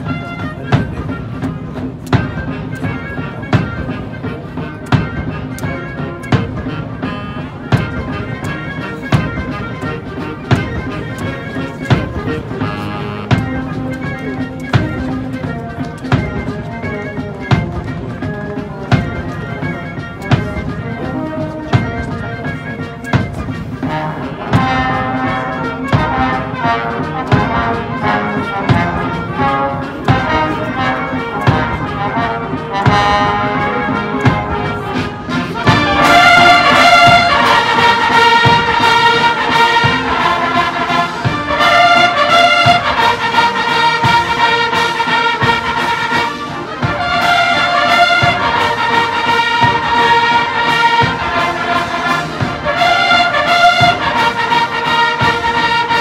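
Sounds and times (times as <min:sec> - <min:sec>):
military band playing a march: 0:00.0 - 0:56.0
regular drum beat: 0:00.0 - 0:56.0.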